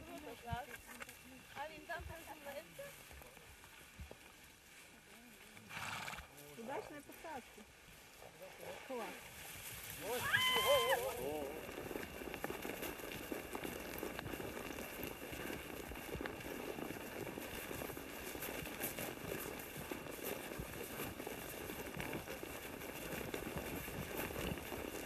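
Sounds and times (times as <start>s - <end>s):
grass rustling: 0.0s - 25.0s
hooves in grass: 0.0s - 25.0s.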